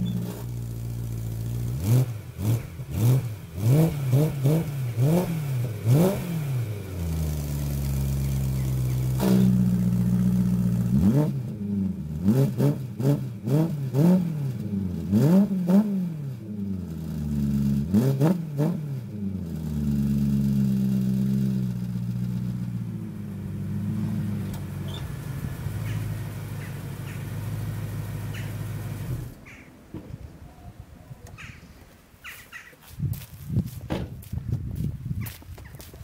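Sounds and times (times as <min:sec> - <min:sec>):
car engine revving and idling: 0:00.0 - 0:29.4.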